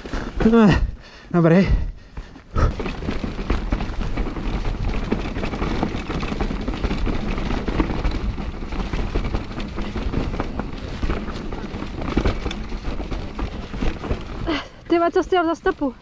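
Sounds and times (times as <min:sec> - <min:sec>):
bike tyre rumble: 0:00.0 - 0:16.0.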